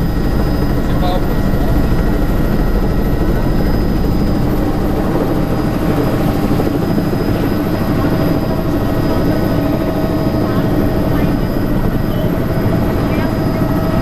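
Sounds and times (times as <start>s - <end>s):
helicopter turbine and rotor: 0.0s - 14.0s.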